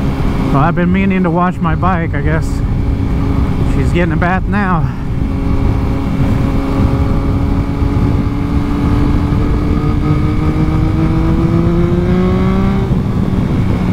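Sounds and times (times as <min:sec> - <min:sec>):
motorcycle engine accelerating: 0:00.0 - 0:13.9
wind rumble on microphone: 0:00.0 - 0:13.9.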